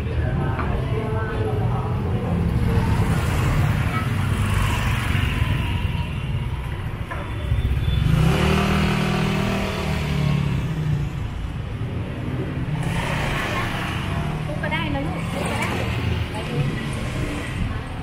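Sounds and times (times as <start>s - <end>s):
vehicle engines running: 0.0s - 18.0s.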